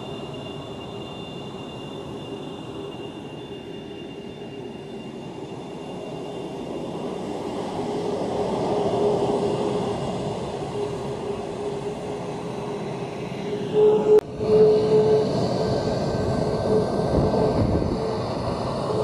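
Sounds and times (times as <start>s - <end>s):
high jet whine: 0.0s - 19.0s
jet engine rumble: 0.0s - 19.0s.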